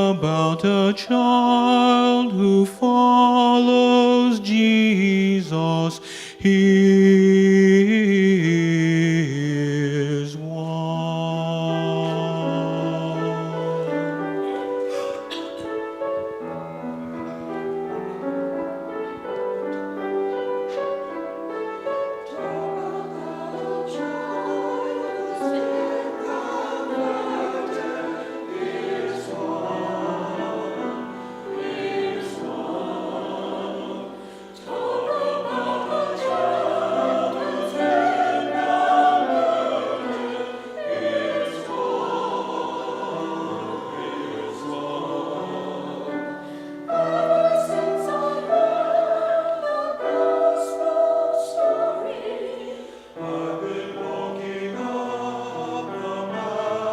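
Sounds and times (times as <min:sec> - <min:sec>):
church choir singing: 0:00.0 - 0:56.9.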